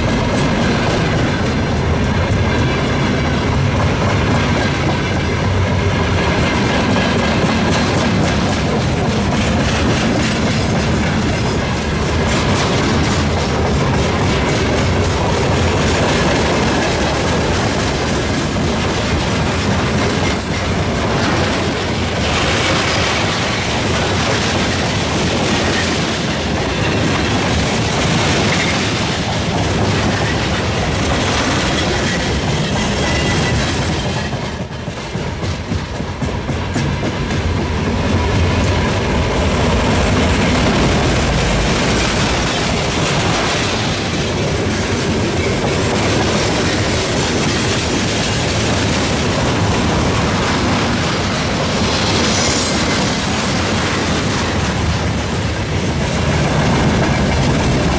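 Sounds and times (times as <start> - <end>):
freight train wheels clattering: 0.0 - 57.9.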